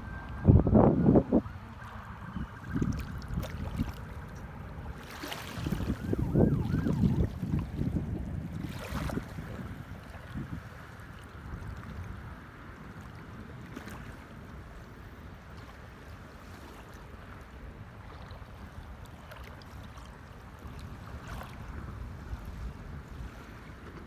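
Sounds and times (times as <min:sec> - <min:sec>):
sea water: 0:00.0 - 0:24.0
wind: 0:00.0 - 0:24.0.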